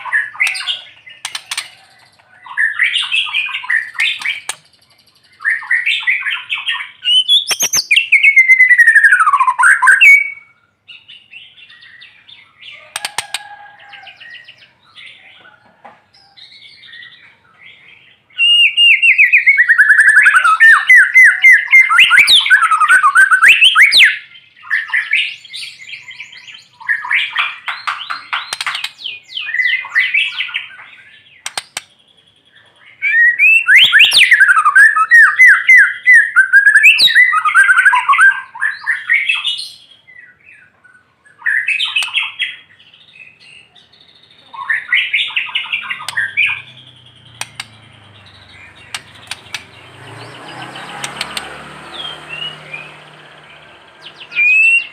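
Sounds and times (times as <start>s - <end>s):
bird singing rapid notes and whistles: 0.0s - 15.2s, 16.4s - 54.9s.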